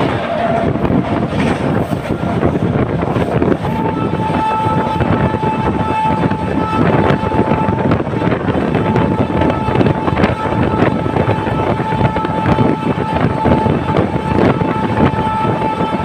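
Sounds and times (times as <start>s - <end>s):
locomotive horn: 0.0s - 16.0s
train rumbling past: 0.0s - 16.0s.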